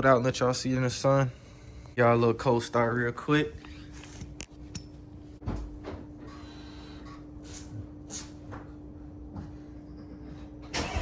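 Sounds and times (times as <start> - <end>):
faint hum: 0.0 - 10.9.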